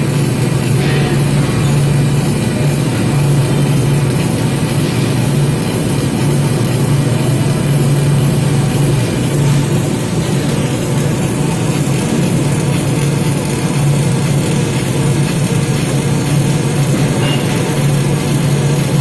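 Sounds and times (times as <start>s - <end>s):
welding machine hum: 0.0s - 19.0s.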